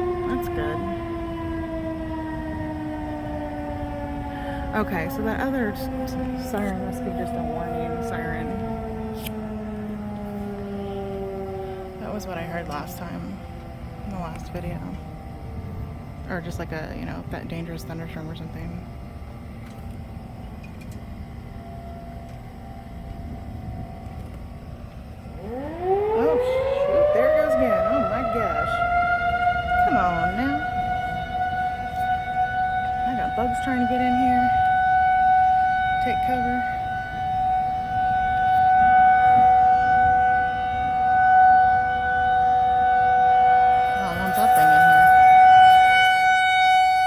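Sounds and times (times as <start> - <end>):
faint siren tone: 0.0 - 47.0
thunderstorm rumble: 0.0 - 47.0.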